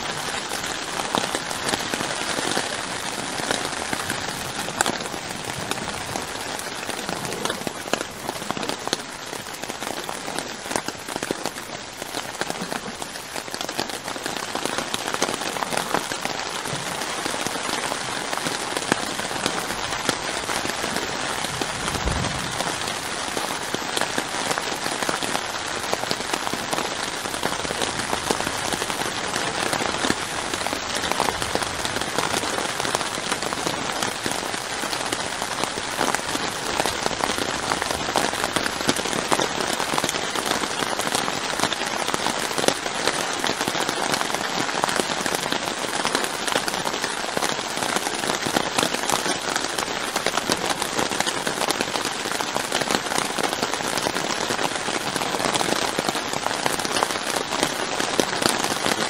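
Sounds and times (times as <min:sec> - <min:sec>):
rain on tent roof: 0:00.0 - 0:59.0.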